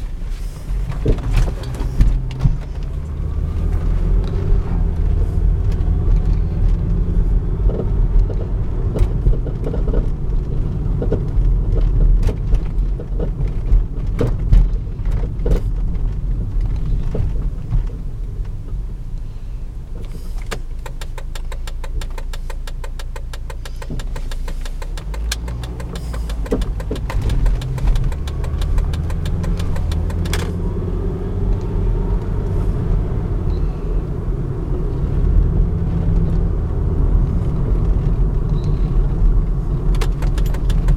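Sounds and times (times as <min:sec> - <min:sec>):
engine knocking and ticking: 0:00.0 - 0:17.8, 0:20.0 - 0:40.9
road and engine rumble: 0:00.0 - 0:40.9.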